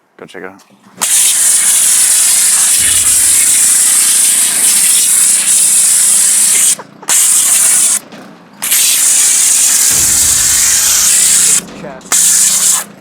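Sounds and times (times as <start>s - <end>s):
pressure washer spraying: 1.0s - 8.0s, 8.6s - 13.0s.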